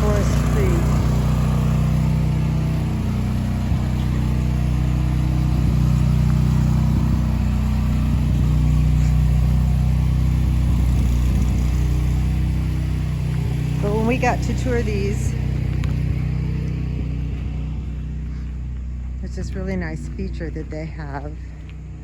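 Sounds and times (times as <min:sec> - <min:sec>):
car engine running: 0:00.0 - 0:22.0
road noise: 0:00.0 - 0:22.0.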